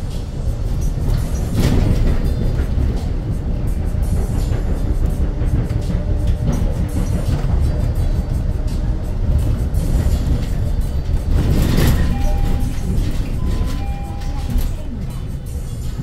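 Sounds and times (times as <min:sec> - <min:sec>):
bus road rumble: 0:00.0 - 0:16.0.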